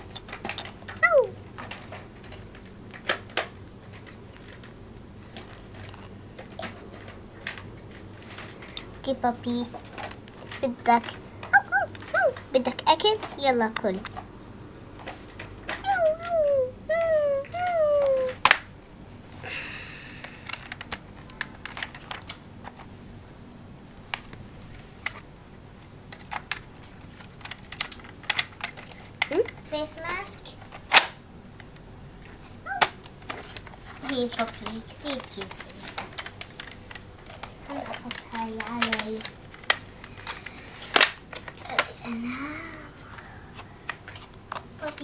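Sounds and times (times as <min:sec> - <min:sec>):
plastic toys clicking and tapping: 0:00.0 - 0:14.3, 0:15.0 - 0:18.7, 0:20.2 - 0:22.9, 0:26.1 - 0:45.0
faint steady low hum: 0:00.0 - 0:45.0.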